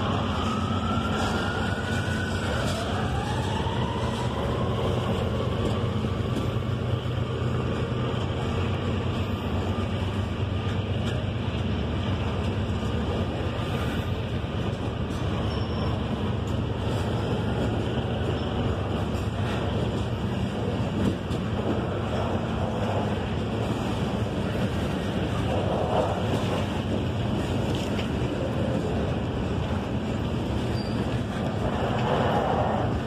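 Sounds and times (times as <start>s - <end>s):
freight train wheels rolling: 0.0s - 33.0s.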